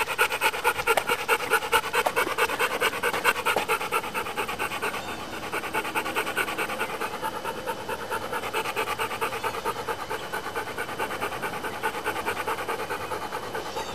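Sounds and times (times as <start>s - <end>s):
dog panting: 0.0s - 13.9s.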